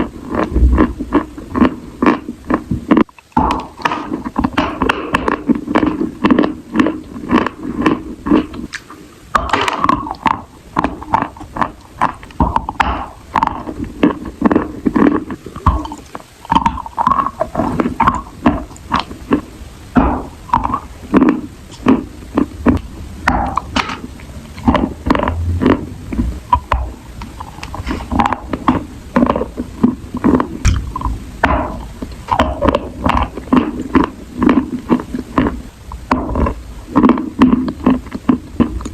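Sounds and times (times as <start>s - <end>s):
wet chewing and crunching: 0.0s - 38.9s.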